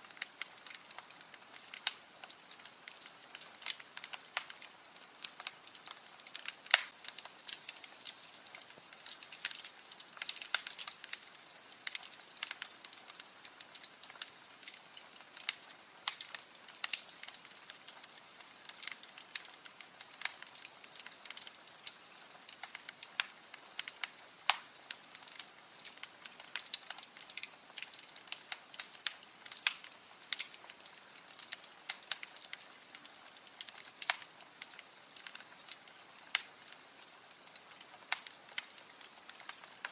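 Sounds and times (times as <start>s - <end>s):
fire soft hiss: 0.0s - 39.9s
wood fire crackling and popping: 0.0s - 39.9s.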